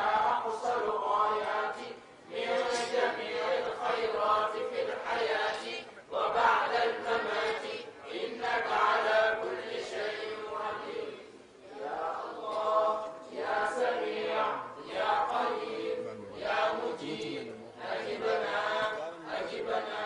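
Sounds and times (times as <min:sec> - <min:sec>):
group chanting in unison: 0:00.0 - 0:20.0.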